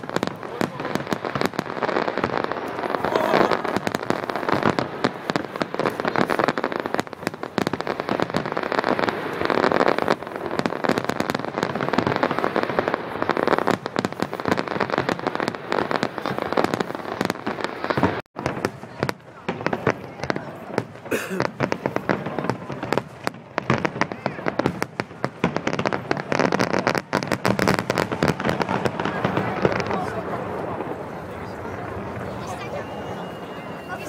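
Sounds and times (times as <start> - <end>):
fireworks crackling: 0.0 - 34.0.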